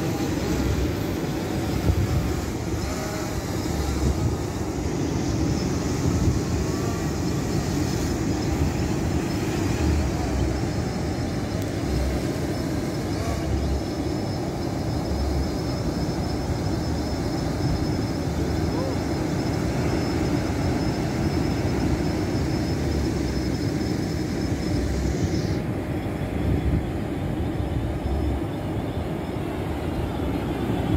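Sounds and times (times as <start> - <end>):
wind buffeting microphone: 0.0 - 22.6, 24.1 - 30.9.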